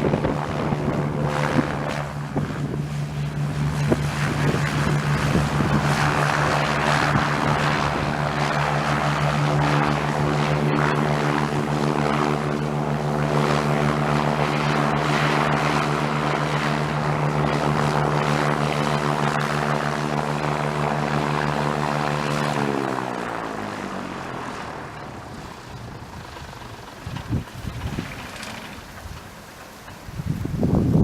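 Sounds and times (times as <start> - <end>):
propeller aircraft engine drone: 0.0 - 31.0.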